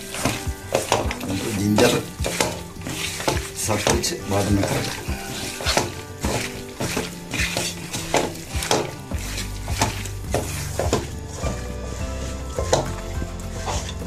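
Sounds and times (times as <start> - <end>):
meat pieces knocking against pan: 0.0 - 11.6
background music: 0.0 - 14.0
wet squishing of kneading: 0.0 - 14.0.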